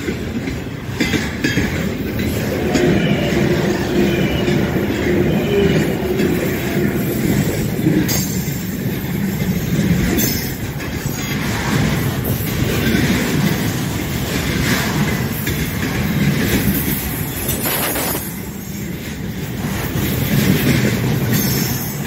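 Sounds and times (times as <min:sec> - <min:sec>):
freight train wheels rumbling: 0:00.0 - 0:22.0
wheels knocking on rail joints: 0:00.0 - 0:22.0.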